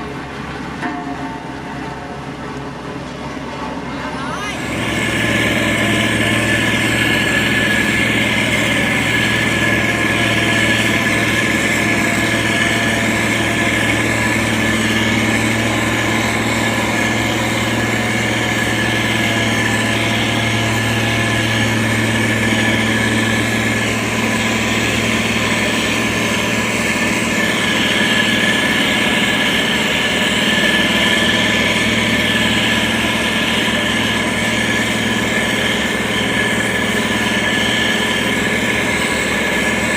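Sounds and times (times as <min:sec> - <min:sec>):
heavy machine engine humming: 0:00.0 - 0:39.9.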